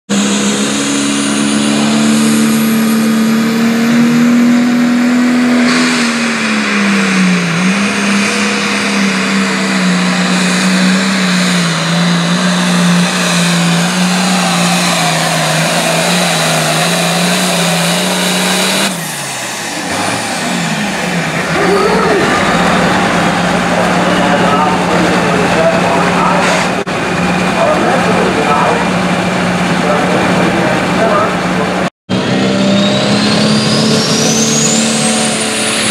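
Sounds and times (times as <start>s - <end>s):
tractor diesel engine at full throttle: 0.1s - 35.9s.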